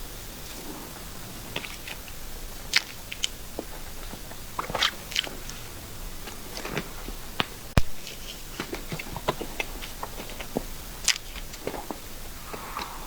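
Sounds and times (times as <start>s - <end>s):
wet chewing smacks: 1.4s - 13.0s.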